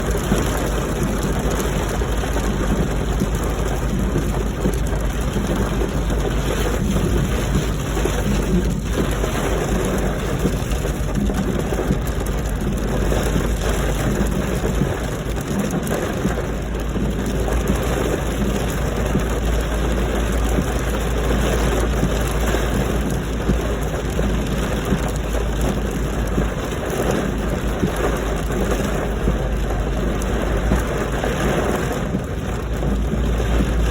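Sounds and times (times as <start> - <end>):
low rumble from car: 0.0 - 33.9
rain falling on a car: 0.0 - 33.9.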